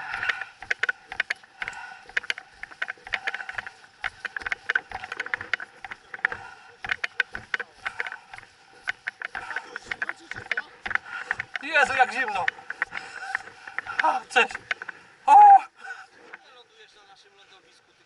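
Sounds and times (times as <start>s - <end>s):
crunching and clicking: 0.0s - 15.2s.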